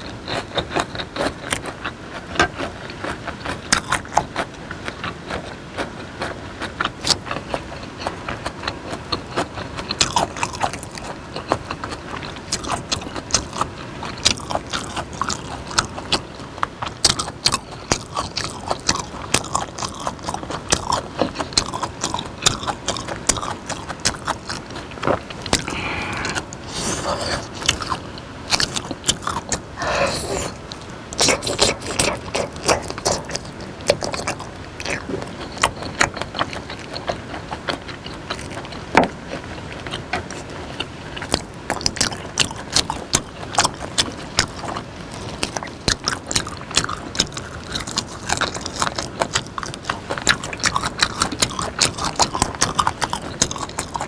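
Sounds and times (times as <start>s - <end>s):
chewing with wet mouth smacks: 0.0s - 54.0s.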